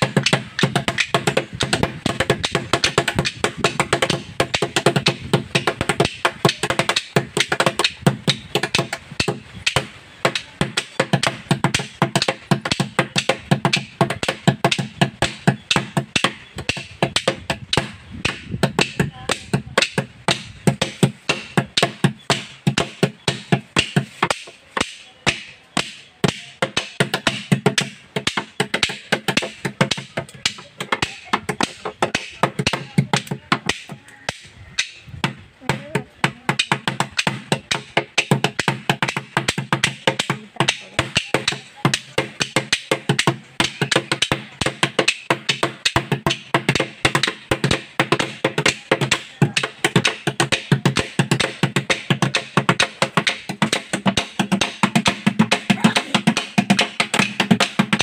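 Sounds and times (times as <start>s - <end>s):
sticks beating plastic jerrycan: 0.0s - 35.0s, 35.8s - 58.0s
hand clappers struck together: 0.0s - 58.0s.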